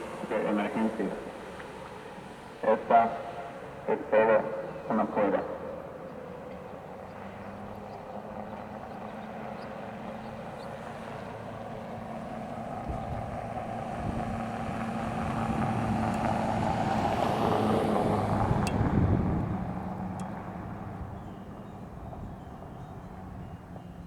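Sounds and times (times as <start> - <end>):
passing vehicle rumbling: 0.0 - 24.0.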